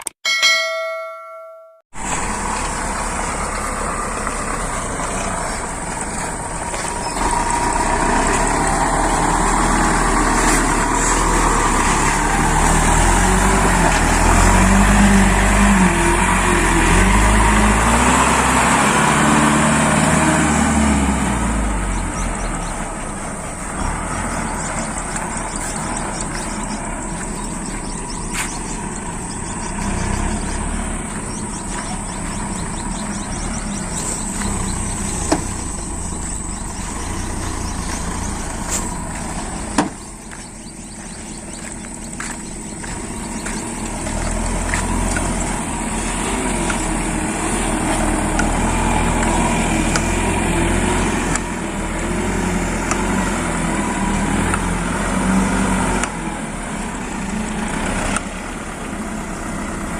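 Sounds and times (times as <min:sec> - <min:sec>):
dump truck engine running: 0:01.9 - 0:59.9.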